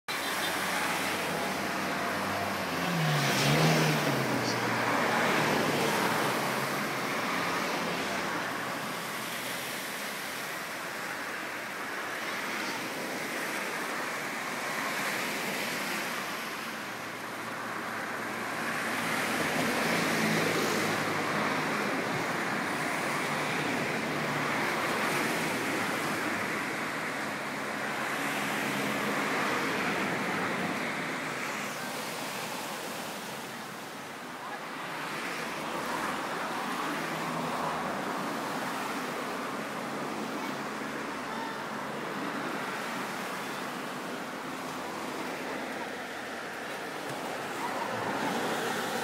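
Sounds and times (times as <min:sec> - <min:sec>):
road traffic hum: 0:00.0 - 0:49.0.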